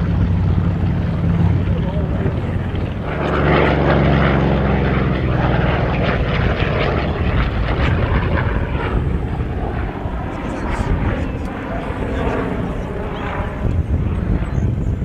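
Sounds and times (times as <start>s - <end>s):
propeller aircraft engine: 0.0s - 15.0s.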